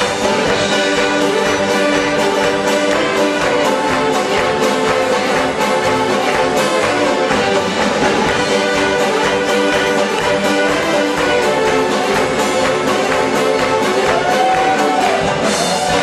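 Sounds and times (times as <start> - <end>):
string band playing lively tune: 0.0 - 16.0.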